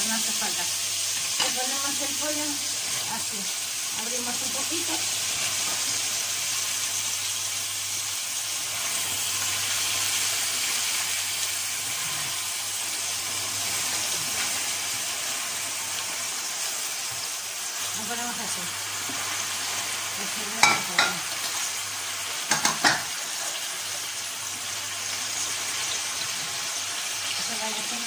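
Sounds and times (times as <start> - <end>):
vegetables sizzling in a pan: 0.0 - 28.0.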